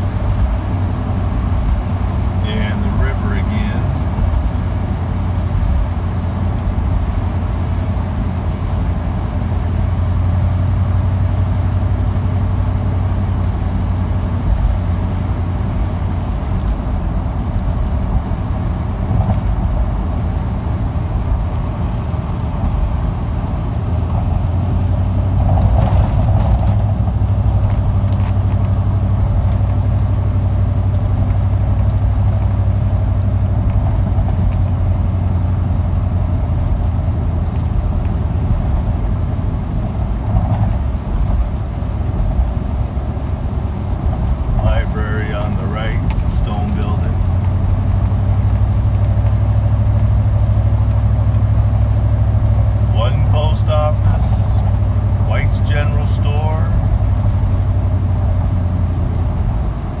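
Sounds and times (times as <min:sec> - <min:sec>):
car engine and road noise: 0:00.0 - 1:00.0.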